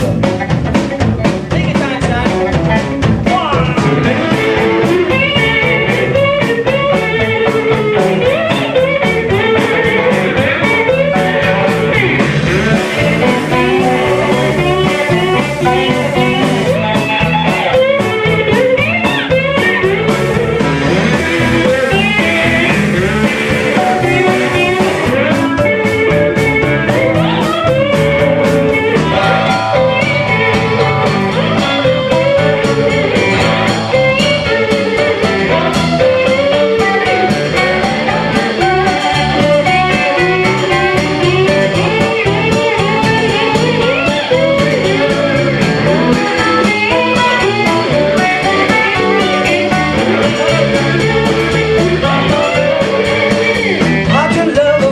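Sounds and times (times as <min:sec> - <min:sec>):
electric guitar: 0:00.0 - 0:54.9
live blues-rock band: 0:00.0 - 0:54.9.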